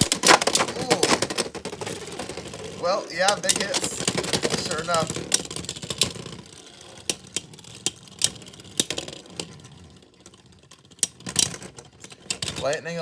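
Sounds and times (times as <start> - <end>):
spinning tops clicking on plastic: 0.0 - 13.0.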